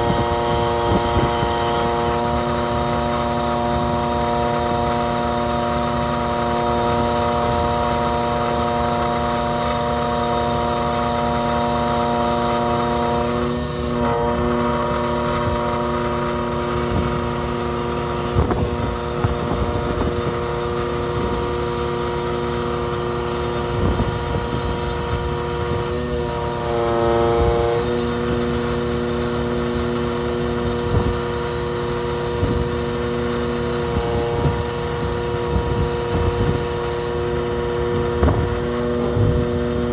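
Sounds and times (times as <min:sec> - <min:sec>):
ship engine hum: 0:00.0 - 0:39.9.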